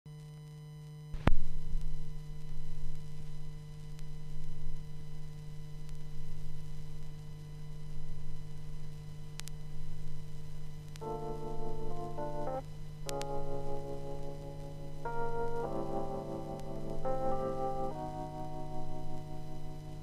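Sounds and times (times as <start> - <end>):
stylus click on vinyl: 0.1 - 6.1, 6.7 - 20.0
electrical hum: 0.1 - 20.0
record groove rumble: 1.2 - 20.0.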